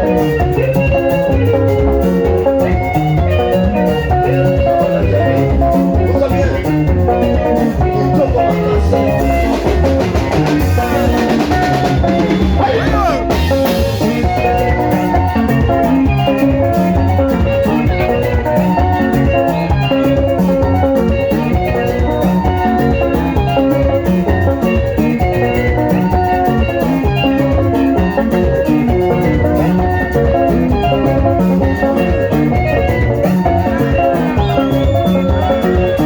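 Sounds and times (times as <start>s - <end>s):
bass: 0.0s - 36.0s
drum kit beat: 0.0s - 36.0s
picked melody notes: 0.0s - 36.0s.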